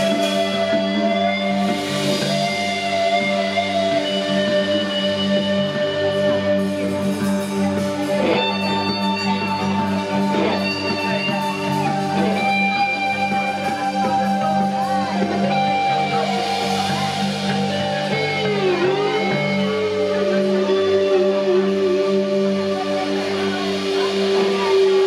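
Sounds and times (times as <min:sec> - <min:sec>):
electric guitar sustained notes: 0:00.0 - 0:25.0.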